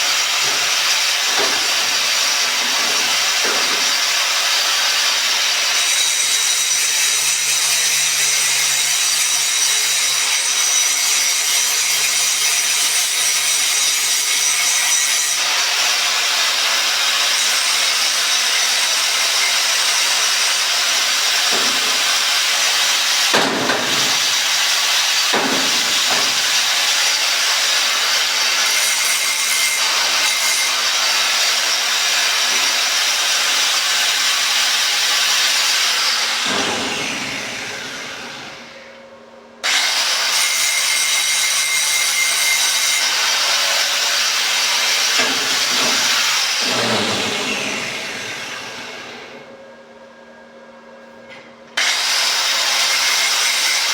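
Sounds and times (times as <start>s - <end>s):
angle grinder grinding metal: 0.0s - 38.7s, 39.6s - 48.9s.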